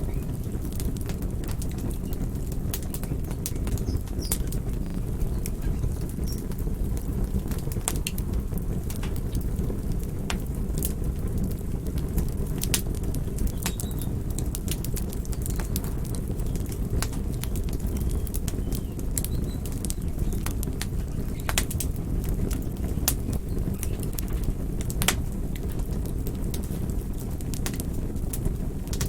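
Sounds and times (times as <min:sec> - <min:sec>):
campfire flames rushing: 0:00.0 - 0:29.0
wood crackling and popping: 0:00.0 - 0:29.0.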